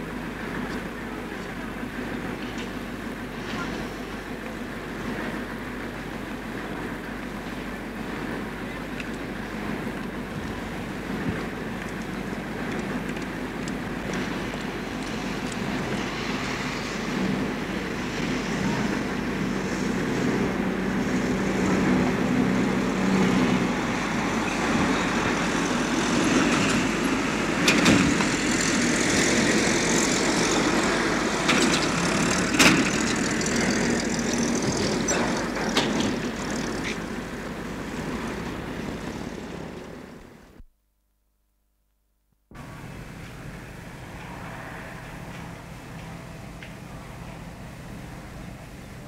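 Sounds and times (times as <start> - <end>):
passing vehicles: 0.0 - 40.6, 42.6 - 49.0
vehicle engine hum: 0.0 - 40.7, 42.5 - 49.0.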